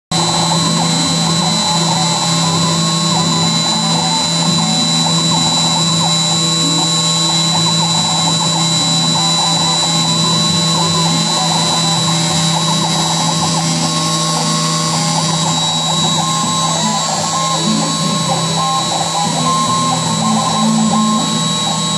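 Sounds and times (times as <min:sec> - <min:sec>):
machine hum and whine: 0:00.1 - 0:21.9
motor tones stepping in pitch: 0:00.1 - 0:21.9.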